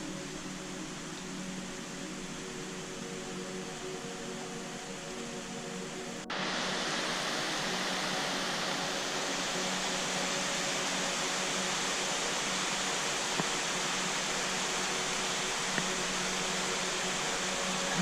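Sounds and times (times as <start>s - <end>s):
steady rain on foliage: 0.0s - 18.0s.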